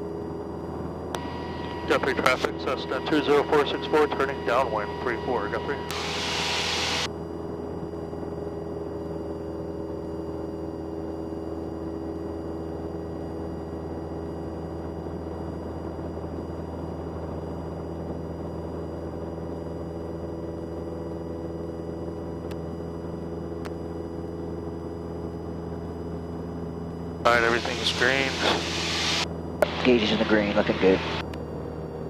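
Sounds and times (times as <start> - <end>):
airplane engine droning: 0.0 - 32.0.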